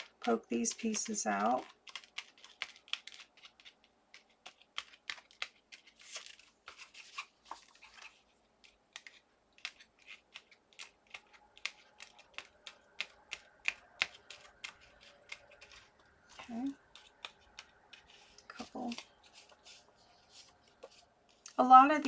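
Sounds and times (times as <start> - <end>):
paper rustling: 0.0 - 21.6
faint paper clicks and ticks: 0.0 - 21.7.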